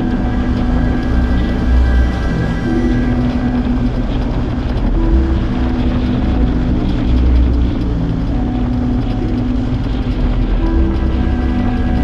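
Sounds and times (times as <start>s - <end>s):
motorcycle engine running: 0.0s - 12.0s
wind noise: 0.0s - 12.0s.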